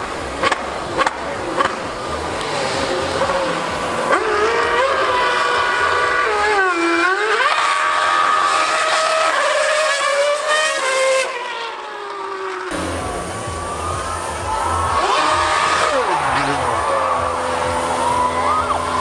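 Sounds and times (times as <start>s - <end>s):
racing car engine screaming: 0.0s - 19.0s.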